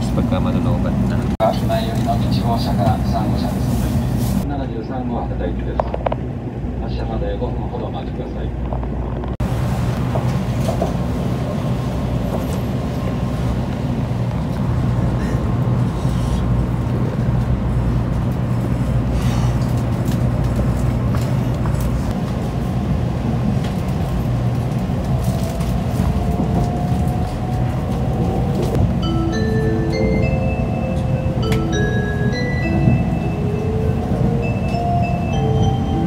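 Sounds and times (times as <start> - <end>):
train cabin rumble: 0.0 - 36.0.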